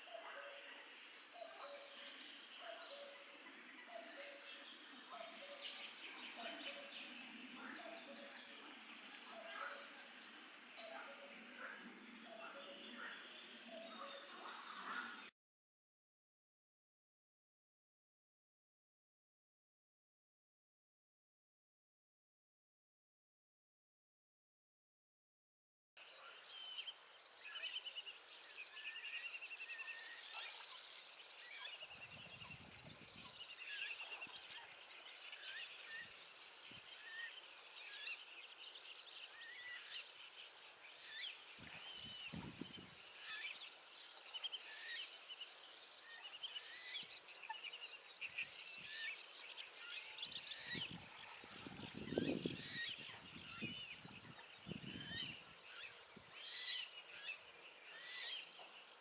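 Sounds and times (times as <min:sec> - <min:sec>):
small birds singing and chirping: 0:00.0 - 0:15.3, 0:26.0 - 0:59.0.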